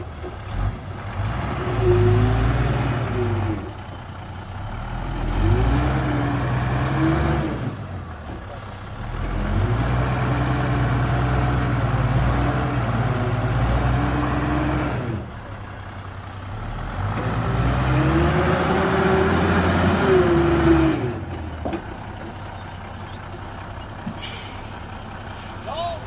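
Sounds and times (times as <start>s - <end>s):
heavy diesel engine revving: 0.0s - 26.0s.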